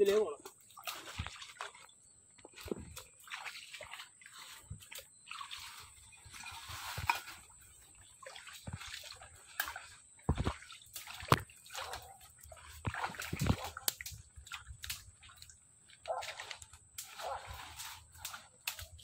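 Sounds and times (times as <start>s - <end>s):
footsteps wading through mud and water: 0.0s - 19.0s.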